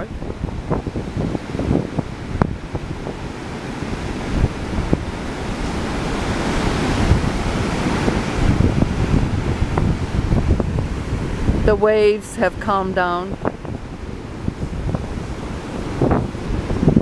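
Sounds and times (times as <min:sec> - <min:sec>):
ocean surf washing ashore: 0:00.0 - 0:17.0
wind buffeting microphone: 0:00.0 - 0:17.0.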